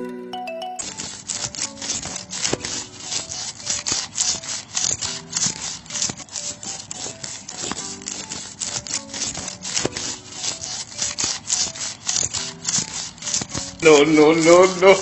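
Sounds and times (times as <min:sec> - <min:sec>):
hand saw cutting wood: 0:00.8 - 0:15.0.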